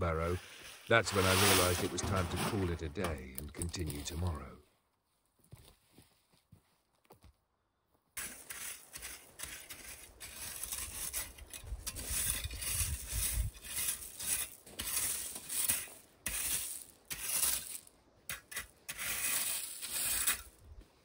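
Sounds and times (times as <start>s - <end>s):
rake scraping through gravel: 0.1s - 4.5s, 8.2s - 20.6s.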